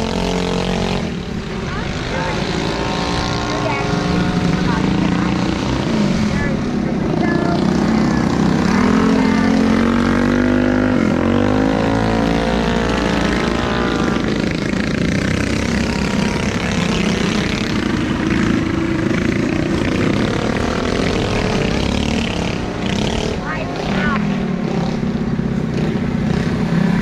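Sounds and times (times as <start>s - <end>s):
minibike engines revving: 0.0s - 27.0s.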